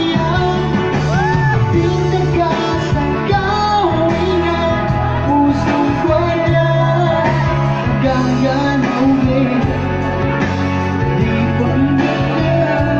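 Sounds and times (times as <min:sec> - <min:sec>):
person singing through a pa: 0:00.0 - 0:09.9, 0:11.1 - 0:12.9
electronic keyboard chords and bass: 0:00.0 - 0:12.9.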